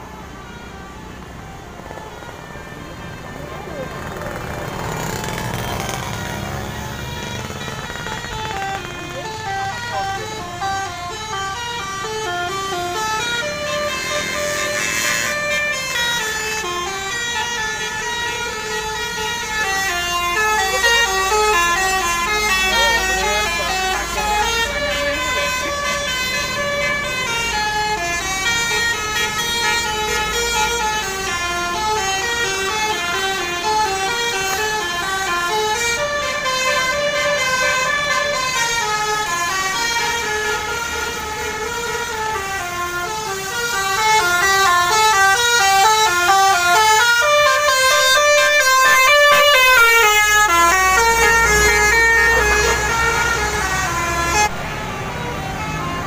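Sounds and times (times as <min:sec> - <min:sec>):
musical bus horn melody: 0:05.1 - 0:56.0.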